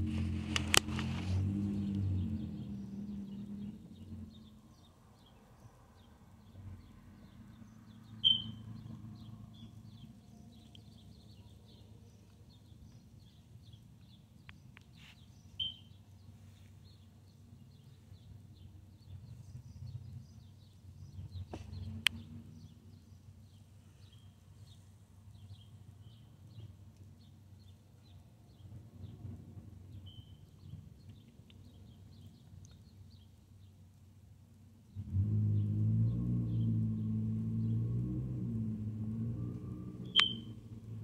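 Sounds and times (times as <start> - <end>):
low rumble of traffic: 0.0 - 41.0
small birds chirping: 0.2 - 29.2, 29.9 - 34.1, 34.8 - 37.8, 40.0 - 40.8.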